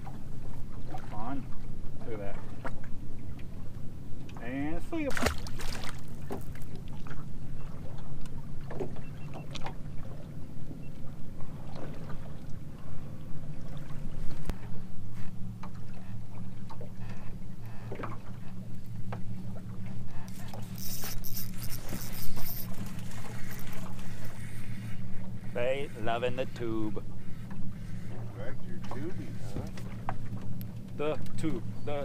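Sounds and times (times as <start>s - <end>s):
water slapping against hull: 0.0s - 31.7s
boat motor humming: 0.0s - 32.0s.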